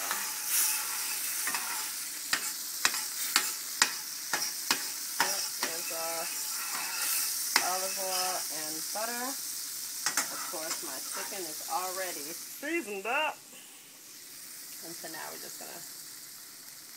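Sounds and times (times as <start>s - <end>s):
oil sizzling in a frying pan: 0.0s - 16.9s.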